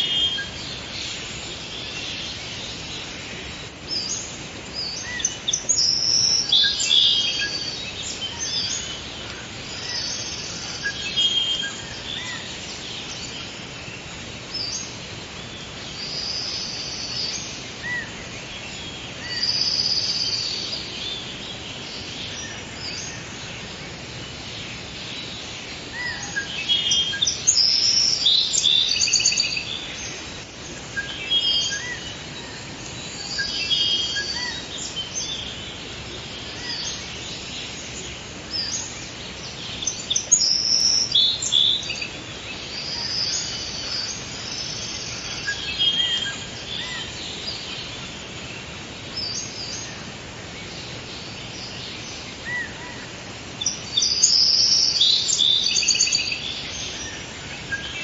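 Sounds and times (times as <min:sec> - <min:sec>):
birds singing and chirping: 0:00.0 - 0:58.0
steady background hiss: 0:00.0 - 0:58.0.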